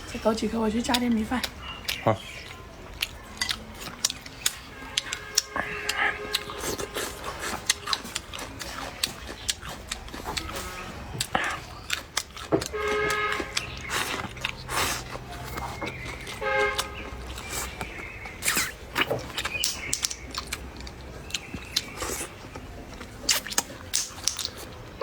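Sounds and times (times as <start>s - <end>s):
crunching and chewing: 0.0s - 25.0s.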